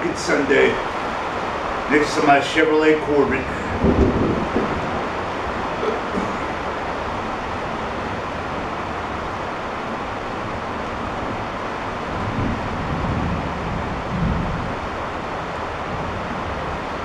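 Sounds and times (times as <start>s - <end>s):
heavy rain rushing: 0.0s - 17.0s.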